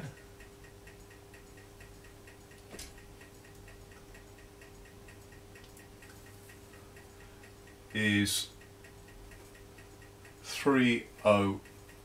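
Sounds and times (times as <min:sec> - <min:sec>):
faint even ticking: 0:00.0 - 0:12.0
low steady hum: 0:00.0 - 0:12.0.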